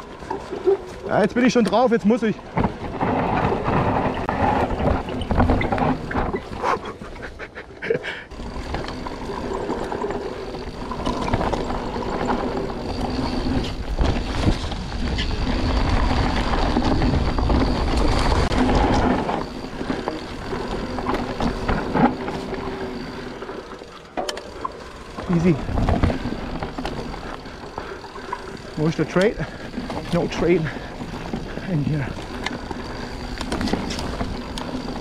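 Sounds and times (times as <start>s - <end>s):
bike clattering over bumps: 0.0s - 7.3s, 8.3s - 35.0s
bike tyres rolling over dirt: 0.0s - 7.3s, 8.0s - 35.0s.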